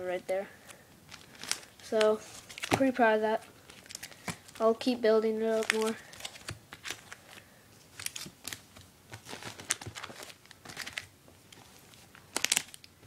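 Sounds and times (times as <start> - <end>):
comic books rustling and crinkling: 0.4 - 13.0.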